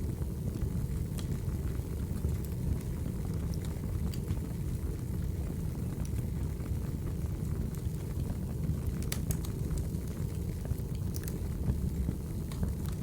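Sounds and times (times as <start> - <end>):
fire crackling and popping: 0.0 - 13.0
wood fire rumbling: 0.0 - 13.0.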